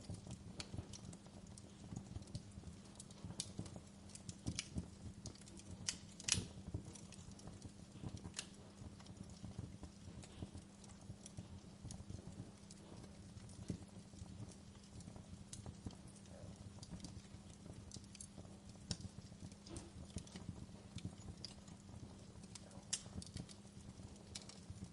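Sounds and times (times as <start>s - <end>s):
low rumble of flame: 0.0s - 24.9s
wood fire crackling and popping: 0.0s - 24.9s.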